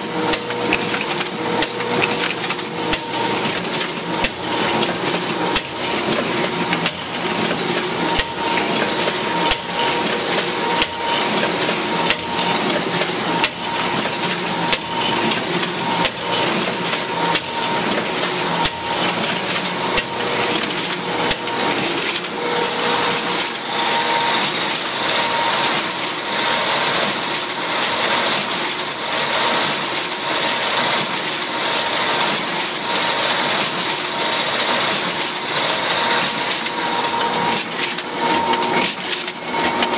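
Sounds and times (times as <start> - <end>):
paper collator whirring: 0.0 - 39.9
sharp machine clicks: 0.0 - 39.9.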